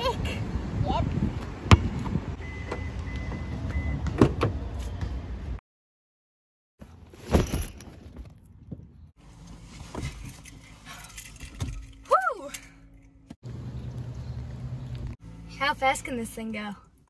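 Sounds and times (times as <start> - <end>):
outdoor noise: 0.0 - 5.6, 6.8 - 17.0.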